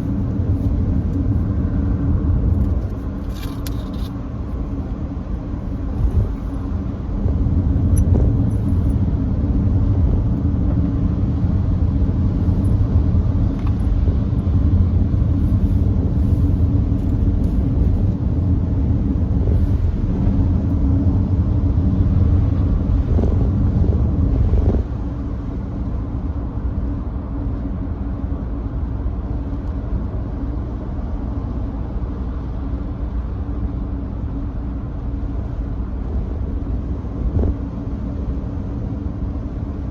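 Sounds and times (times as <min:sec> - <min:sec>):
in-cabin road and tyre rumble: 0:00.0 - 0:39.9.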